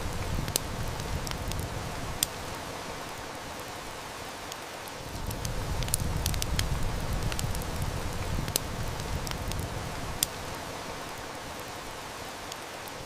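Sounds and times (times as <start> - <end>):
heavy rain: 0.0 - 13.0
wood fire crackling: 0.0 - 13.0.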